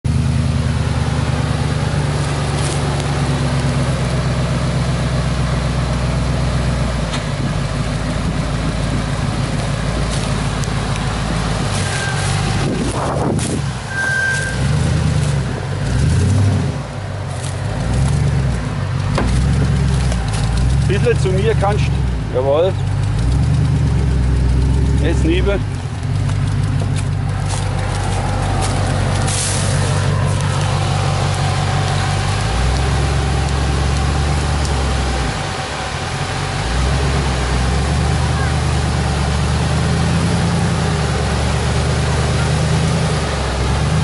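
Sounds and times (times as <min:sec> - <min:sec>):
truck engine running at low revs: 0:00.0 - 0:44.0.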